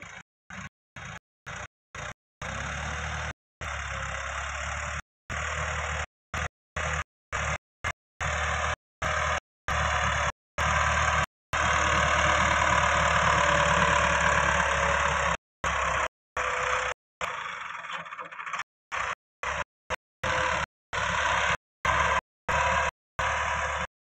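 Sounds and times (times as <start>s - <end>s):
tractor diesel engine running: 0.0s - 23.9s.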